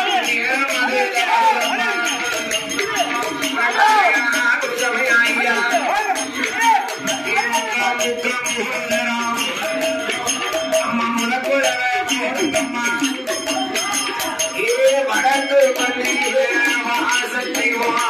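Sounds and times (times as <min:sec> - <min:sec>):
jingling bells and percussion: 0:00.0 - 0:18.0
person singing: 0:00.0 - 0:18.0.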